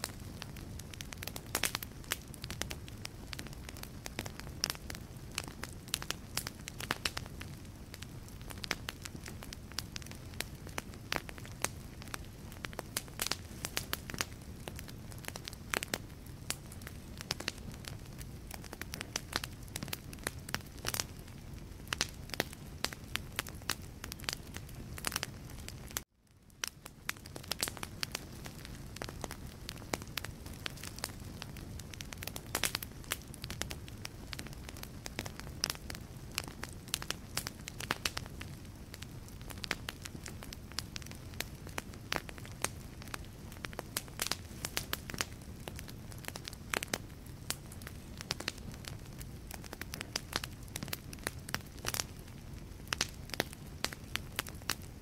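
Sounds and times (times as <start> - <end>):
crackling logs popping: 0.0 - 55.0
low rumble of flames: 0.0 - 55.0.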